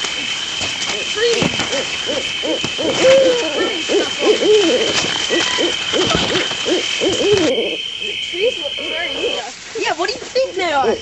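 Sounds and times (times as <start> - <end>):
overlapping hooting calls: 0.0 - 11.0
steady high-pitched whine: 0.0 - 11.0.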